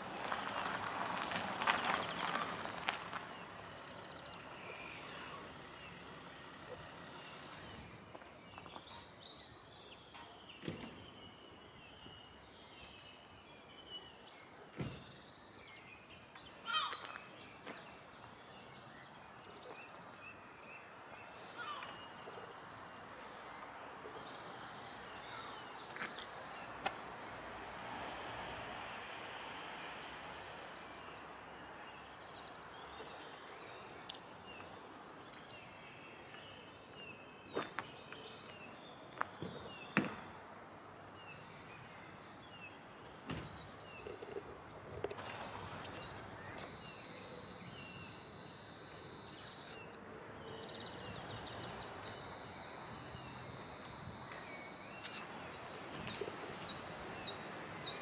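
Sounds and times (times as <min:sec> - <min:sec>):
small birds chirping: 0:00.2 - 0:27.1, 0:28.8 - 0:58.0.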